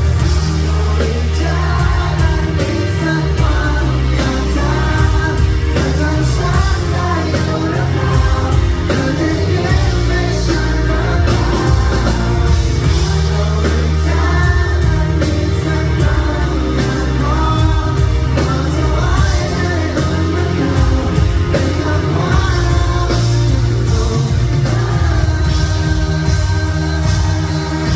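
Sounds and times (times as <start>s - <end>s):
person singing: 0.0s - 27.9s
pop-rock band playing live: 0.0s - 27.9s.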